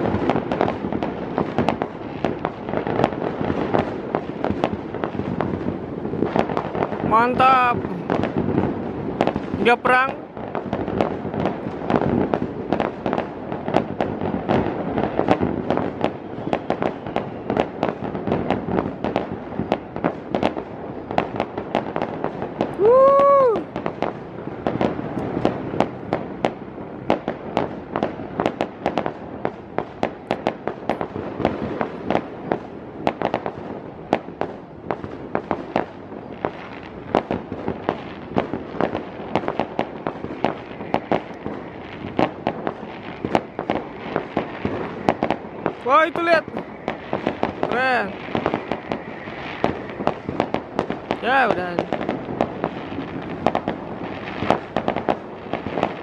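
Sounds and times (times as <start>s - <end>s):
firework whoop rising and falling: 0.0s - 56.0s
fireworks popping and banging: 0.0s - 56.0s.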